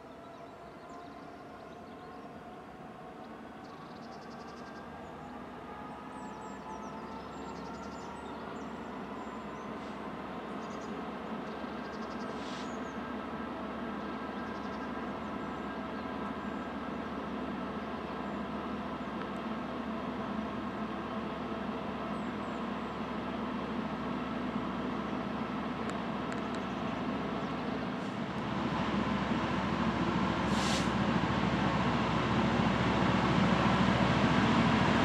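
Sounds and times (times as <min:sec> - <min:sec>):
diesel locomotive engine running: 0:04.3 - 0:35.0.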